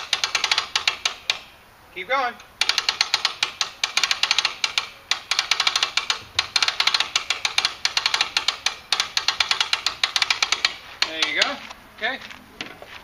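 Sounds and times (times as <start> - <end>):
winch ratchet clicking: 0.0 - 1.5, 2.4 - 11.6.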